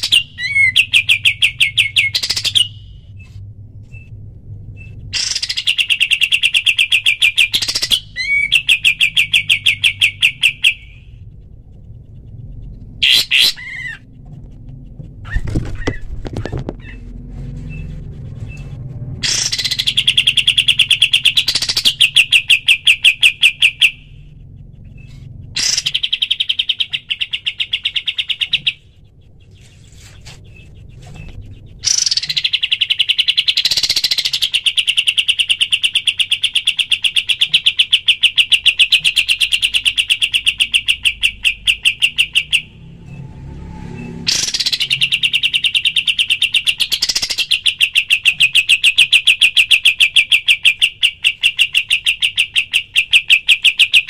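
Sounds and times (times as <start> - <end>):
bird trilling high chirps: 0.0 - 3.3, 4.8 - 11.3, 12.6 - 14.1, 15.3 - 43.2, 43.8 - 54.0.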